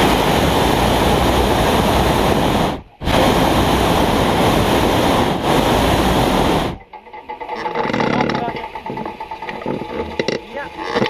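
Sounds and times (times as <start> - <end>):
propane burner roaring: 0.0 - 11.0.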